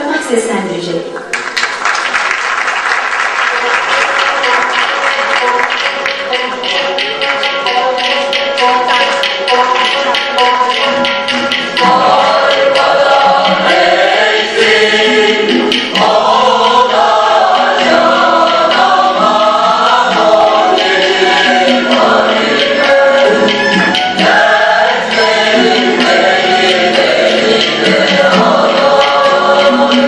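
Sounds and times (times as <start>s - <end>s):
choir singing: 3.5s - 30.0s.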